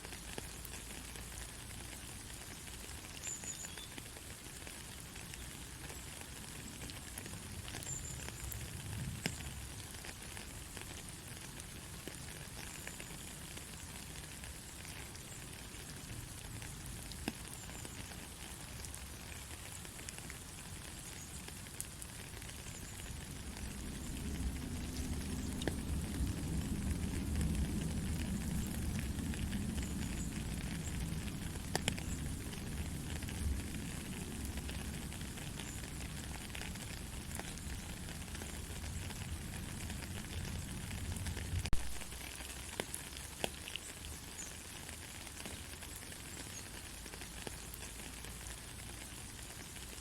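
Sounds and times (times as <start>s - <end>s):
soft rain pattering: 0.0s - 50.0s.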